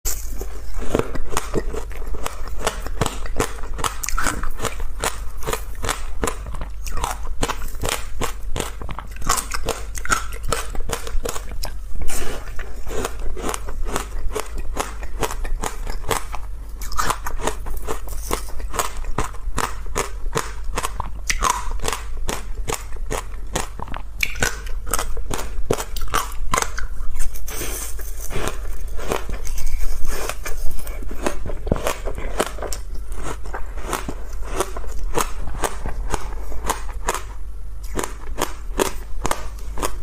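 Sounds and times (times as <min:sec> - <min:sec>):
chewing crunchy ice: 0:00.1 - 0:40.0.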